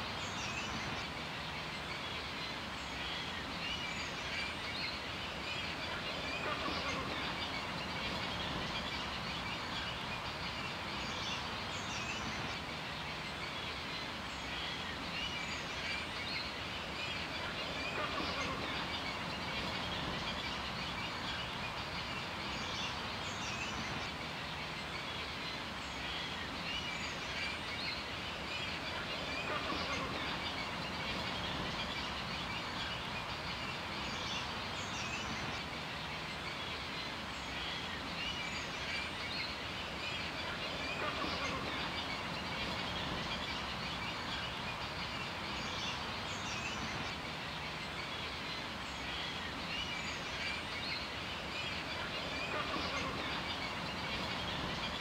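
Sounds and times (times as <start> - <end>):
background hiss: 0.0 - 55.0
birds chirping: 0.0 - 55.0.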